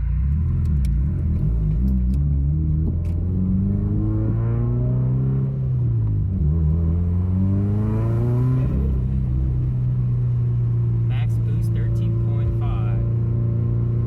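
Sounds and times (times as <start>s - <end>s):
turbocharged car engine accelerating: 0.0s - 14.0s.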